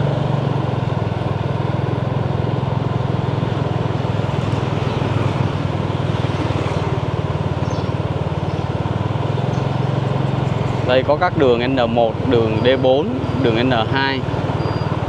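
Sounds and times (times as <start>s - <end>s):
road and wind noise: 0.0s - 15.0s
vehicle engine pulsing drone: 0.0s - 15.0s.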